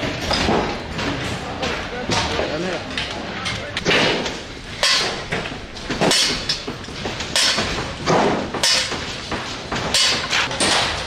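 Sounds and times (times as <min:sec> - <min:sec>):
heavy demolition knocks and bangs: 0:00.0 - 0:11.0.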